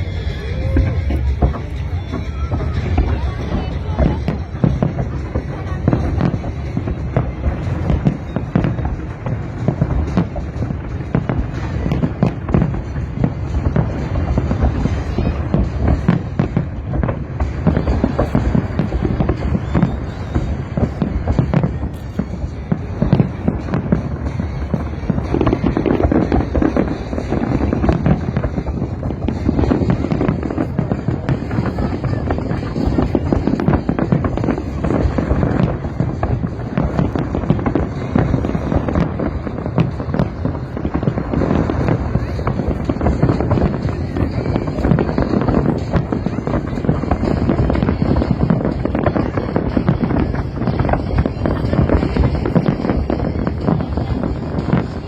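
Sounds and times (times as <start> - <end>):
fireworks bangs and crackles: 0.0 - 55.0
low rumble: 0.0 - 55.0.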